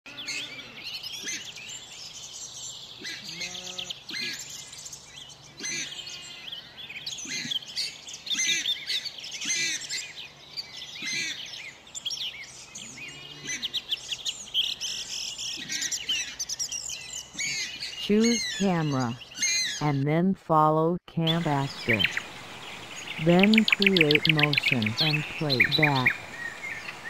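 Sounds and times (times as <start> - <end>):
birds chirping: 0.1 - 20.3, 21.2 - 27.0.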